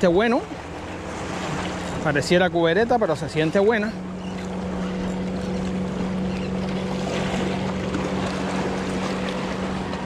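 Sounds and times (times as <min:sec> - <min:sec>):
low mechanical hum: 0:00.0 - 0:10.0
sea noise: 0:00.0 - 0:10.0
wind: 0:00.0 - 0:10.0.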